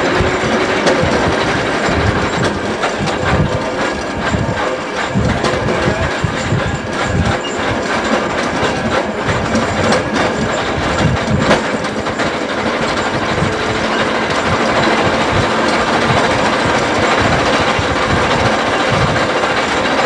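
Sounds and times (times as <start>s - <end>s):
sharp clicks and knocks: 0.0s - 20.0s
tram wheels rumbling on rails: 0.0s - 20.0s.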